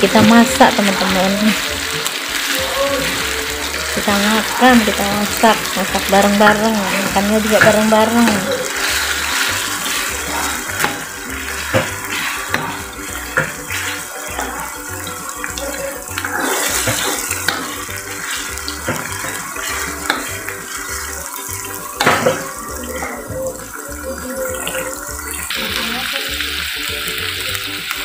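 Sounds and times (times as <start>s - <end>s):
spice paste sizzling in oil: 0.0s - 28.0s.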